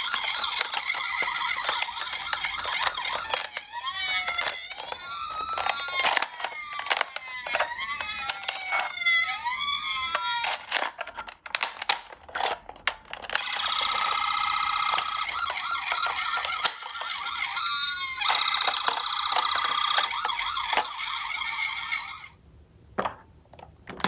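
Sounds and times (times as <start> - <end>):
plastic toy cars clattering: 0.0 - 21.5, 23.0 - 24.0
toy sirens wailing: 0.0 - 22.4.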